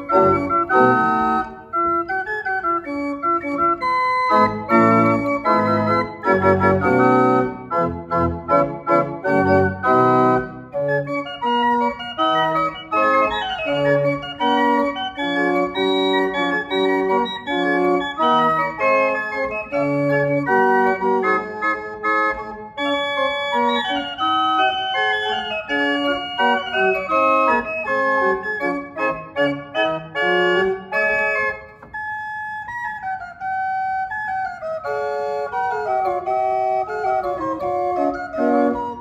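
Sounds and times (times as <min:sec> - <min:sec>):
pipe organ playing: 0:00.0 - 0:39.0.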